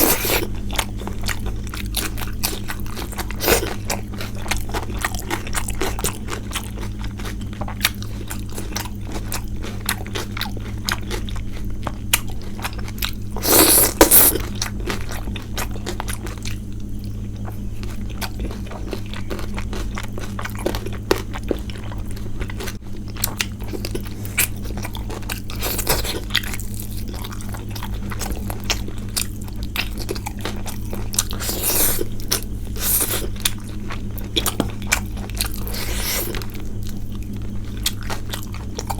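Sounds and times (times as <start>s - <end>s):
crunchy bites: 0.0s - 38.9s
person chewing food: 0.0s - 38.9s.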